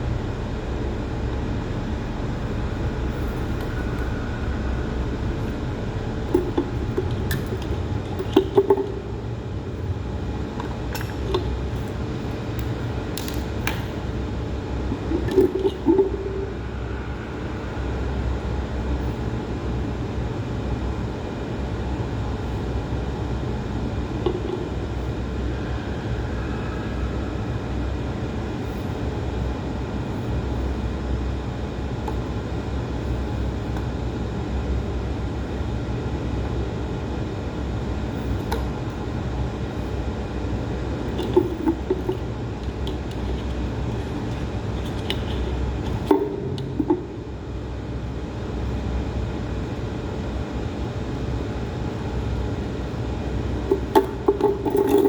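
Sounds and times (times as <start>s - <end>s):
low machinery hum: 0.0s - 55.0s.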